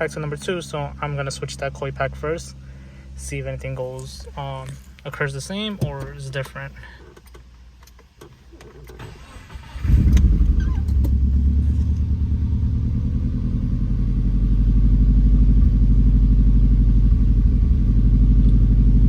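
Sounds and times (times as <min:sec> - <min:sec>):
car engine idling: 0:00.0 - 0:19.0
car engine starting: 0:00.0 - 0:19.0.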